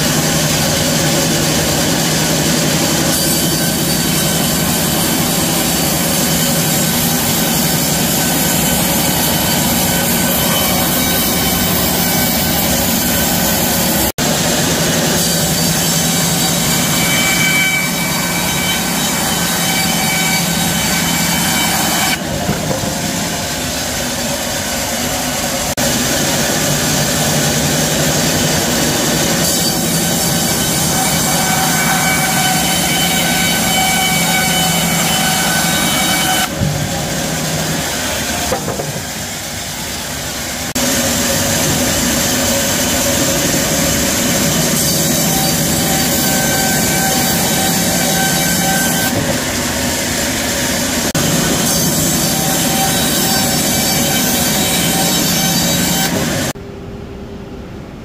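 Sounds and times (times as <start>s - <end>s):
band saw cutting log: 0.0s - 56.6s.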